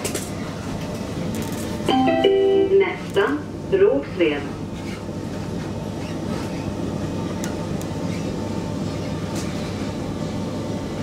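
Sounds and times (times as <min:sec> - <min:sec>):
train rumble on rails: 0:00.0 - 0:11.0.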